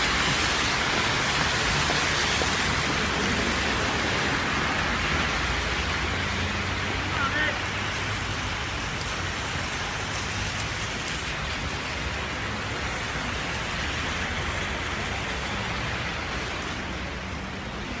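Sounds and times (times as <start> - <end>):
hail and rain on pavement: 0.0 - 18.0.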